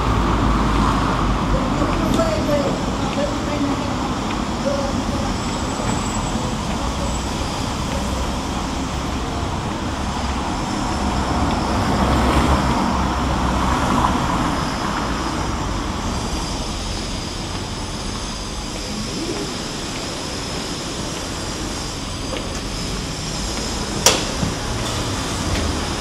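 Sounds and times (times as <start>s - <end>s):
street traffic engine rumble: 0.0s - 26.0s
vehicle passing: 0.0s - 26.0s.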